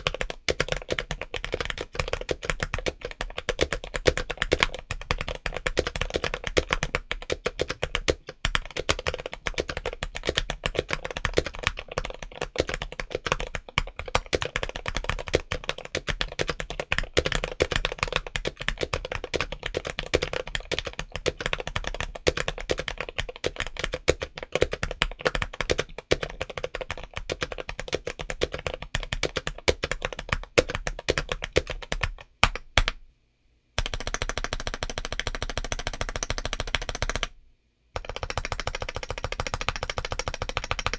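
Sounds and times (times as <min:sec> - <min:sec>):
mechanical keyboard typing: 0:00.0 - 0:33.0, 0:33.8 - 0:37.3, 0:38.0 - 0:40.9.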